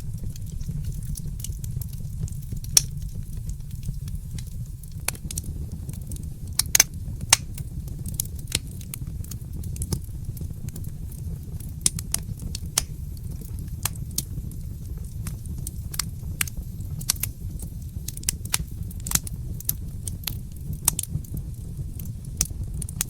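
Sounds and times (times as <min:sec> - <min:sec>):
fireplace fire crackling: 0:00.0 - 0:23.0.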